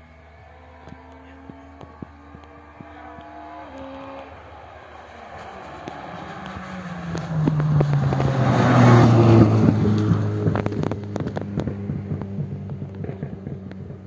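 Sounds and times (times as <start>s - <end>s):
rally car engine passing: 0.0s - 14.0s
sharp engine crackles: 0.4s - 14.0s.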